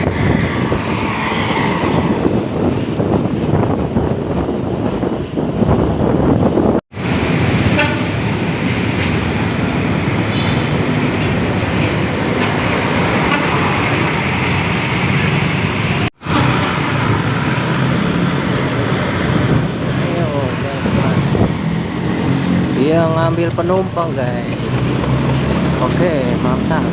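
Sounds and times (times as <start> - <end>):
bus diesel engine and exhaust: 0.0 - 26.9
road and wind noise: 0.0 - 26.9.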